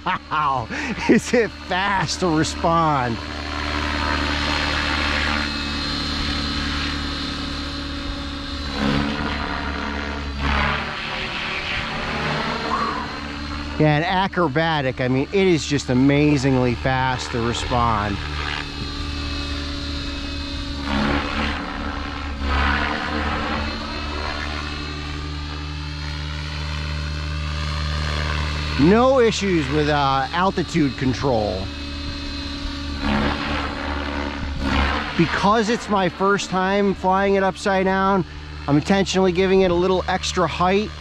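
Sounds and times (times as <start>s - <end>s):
rc helicopter rotor whine: 0.0s - 41.0s.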